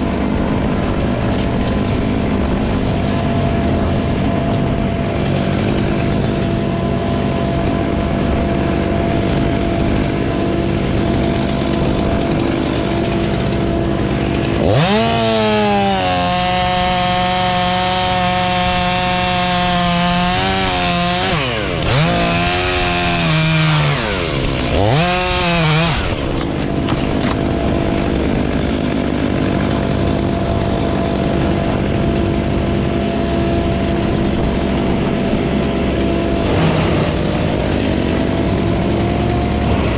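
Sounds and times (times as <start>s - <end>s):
steady engine running: 0.0s - 39.9s
chainsaw revving: 0.2s - 39.9s.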